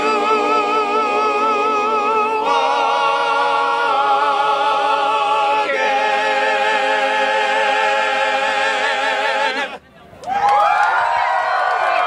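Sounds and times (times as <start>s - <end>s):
men's chorus singing chords: 0.0s - 9.8s.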